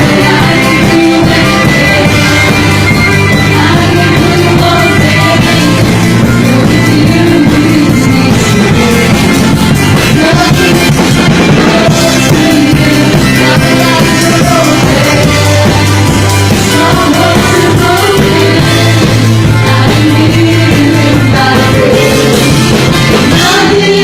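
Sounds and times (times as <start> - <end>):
person singing: 0.0 - 24.0
worship band playing: 0.0 - 24.0.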